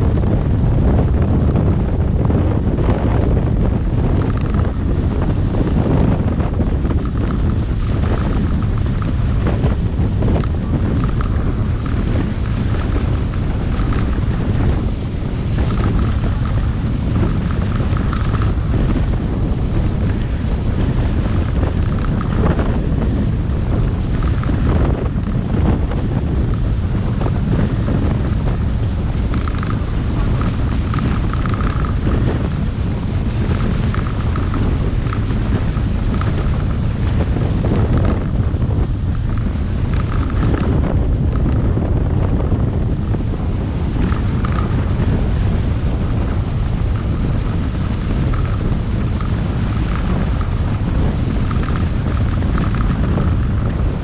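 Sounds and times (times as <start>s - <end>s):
boat running on water: 0.0s - 54.0s
wind buffeting microphone: 0.0s - 54.0s.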